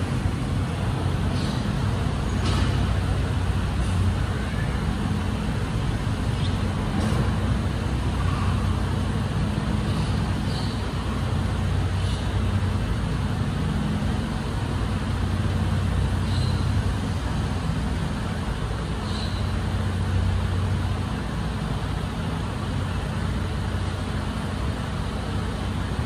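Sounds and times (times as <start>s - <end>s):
garbage truck engine idling: 0.0s - 26.0s.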